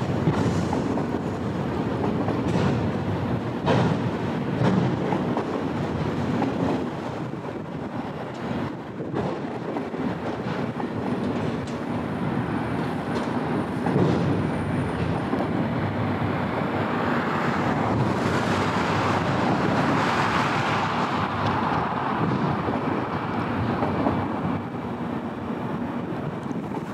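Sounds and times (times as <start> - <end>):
freight train cars rumbling: 0.0 - 26.9.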